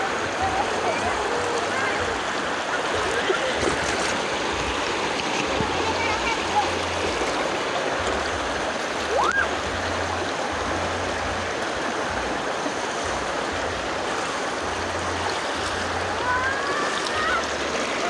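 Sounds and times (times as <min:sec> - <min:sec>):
river water flowing over rocks: 0:00.0 - 0:18.0.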